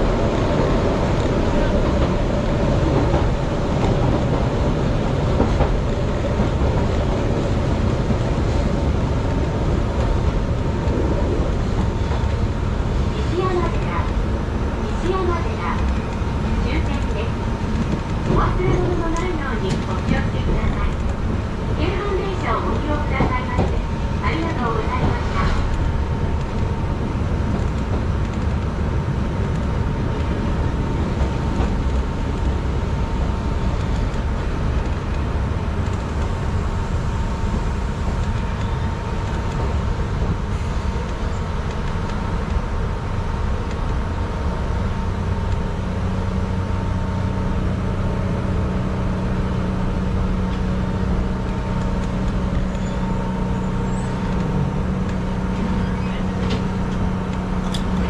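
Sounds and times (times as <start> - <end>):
electric train rolling: 0.0 - 58.0.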